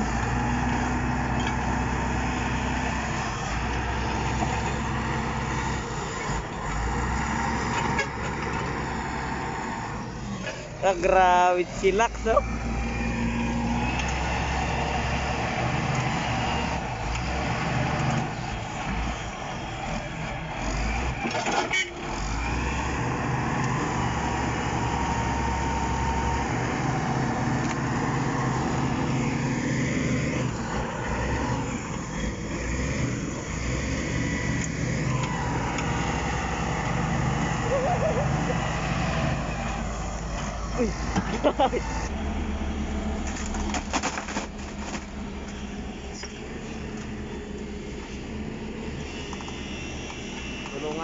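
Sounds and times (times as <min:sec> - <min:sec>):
bulldozer diesel engine under load: 0:00.0 - 0:51.0.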